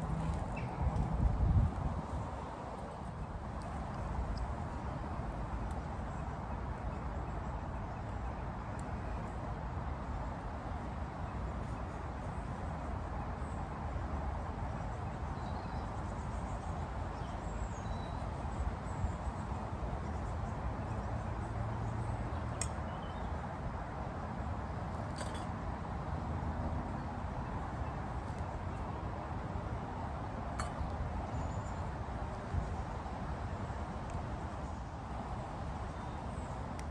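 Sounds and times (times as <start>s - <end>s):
wind rushing through leaves: 0.0s - 36.9s.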